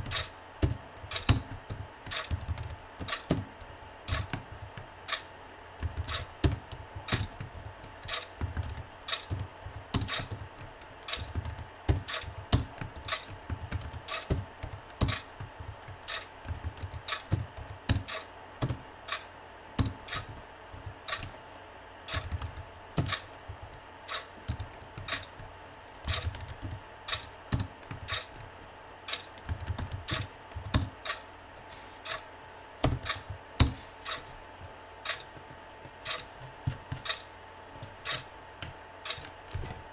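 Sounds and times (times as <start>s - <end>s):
typing on computer keyboard: 0.0s - 5.2s, 5.8s - 18.8s, 19.8s - 31.2s, 32.8s - 33.8s, 37.8s - 39.9s
faint steady hum: 0.0s - 39.9s.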